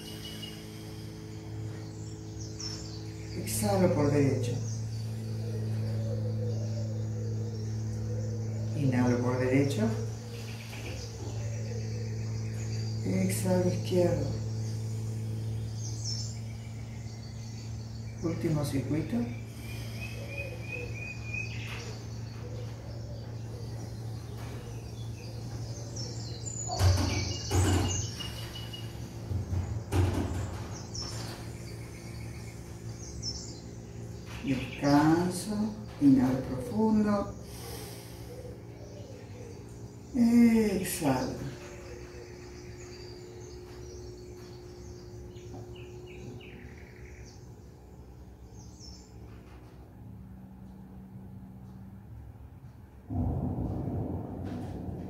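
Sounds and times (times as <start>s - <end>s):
faint birds chirping: 0.0s - 55.0s
steady low hum: 0.0s - 55.0s.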